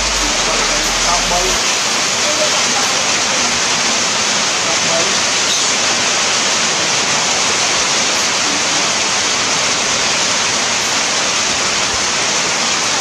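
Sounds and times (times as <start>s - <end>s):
rain falling on forest canopy: 0.0s - 13.0s.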